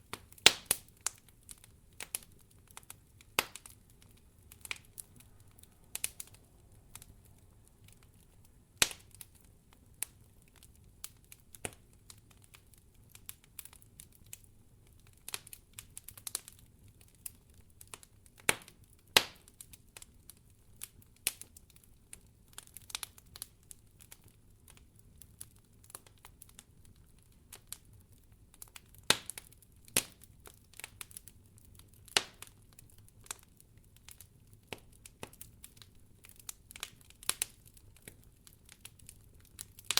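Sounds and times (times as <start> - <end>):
faint low background noise: 0.0 - 39.9
wood fire crackling: 0.0 - 39.9.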